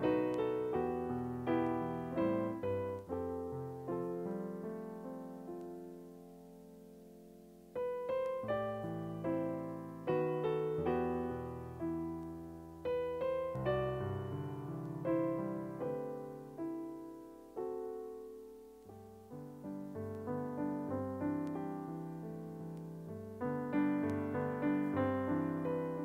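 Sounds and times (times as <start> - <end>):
slow piano playing: 0.0 - 26.0.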